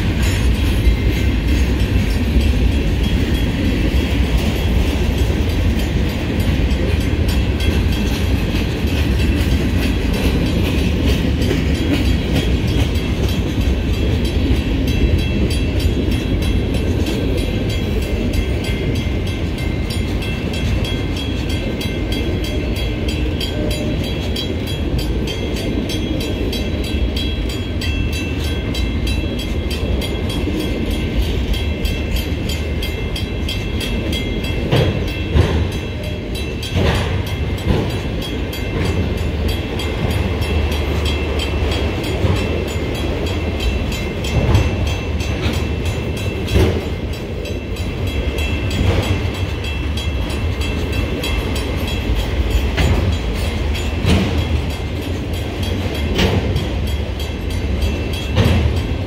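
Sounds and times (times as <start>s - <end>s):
crossing bell ringing: 0.0s - 59.0s
steel wheels rumbling on rails: 0.0s - 59.0s
train cars knocking: 0.0s - 59.0s.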